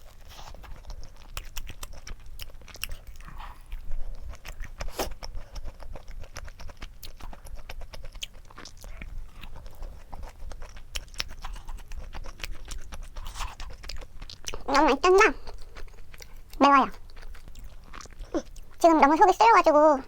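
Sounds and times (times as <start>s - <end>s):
close chewing mouth sounds: 0.0s - 20.0s.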